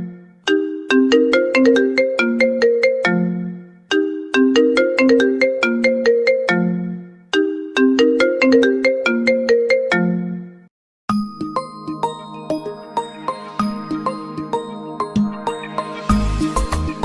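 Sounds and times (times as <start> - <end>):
ringtone melody of struck notes: 0.0 - 17.0
bright ringing ringtone: 0.5 - 10.4, 11.1 - 17.0.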